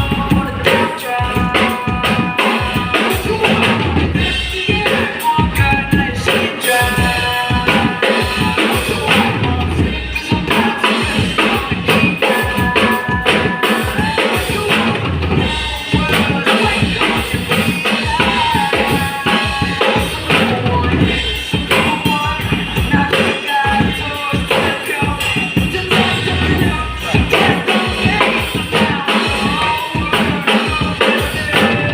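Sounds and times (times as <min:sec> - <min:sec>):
backing track melody: 0:00.0 - 0:31.9
drum kit groove: 0:00.0 - 0:31.9.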